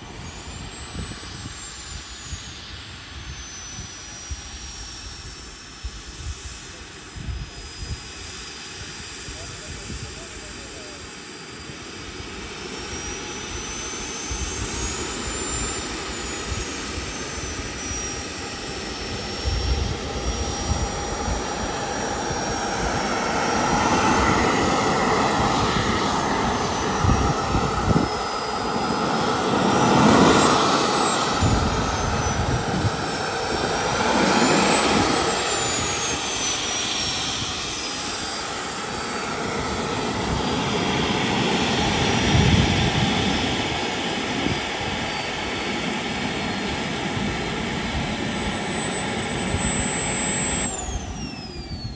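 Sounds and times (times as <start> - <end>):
model jet turbine whine: 0.0 - 51.9.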